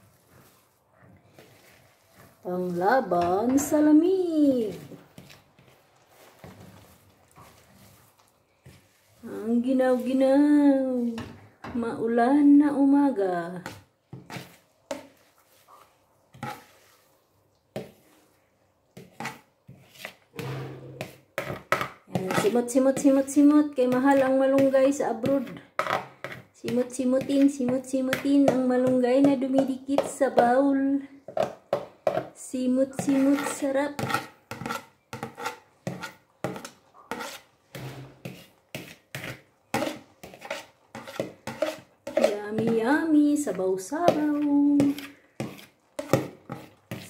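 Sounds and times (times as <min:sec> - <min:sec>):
spoon scraping plastic bowl: 0:00.0 - 0:10.3, 0:13.6 - 0:17.2, 0:19.0 - 0:30.6, 0:31.3 - 0:47.0.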